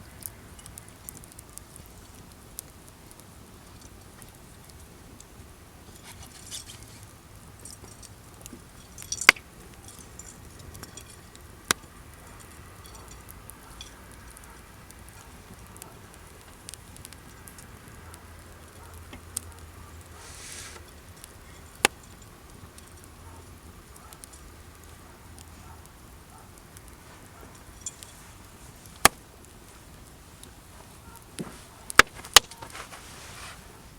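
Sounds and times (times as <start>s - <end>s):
burning wood popping: 0.0s - 33.9s
campfire crackling: 0.0s - 33.9s.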